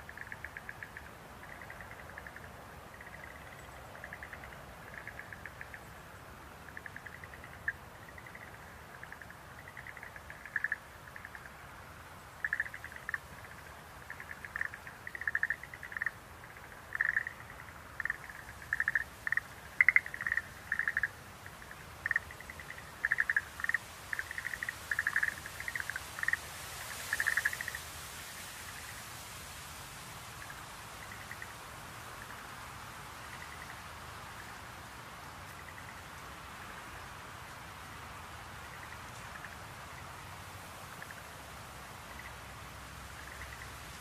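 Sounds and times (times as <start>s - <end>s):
tree frogs trilling croaks: 0.0s - 29.2s, 30.3s - 44.0s
background hiss: 0.0s - 44.0s.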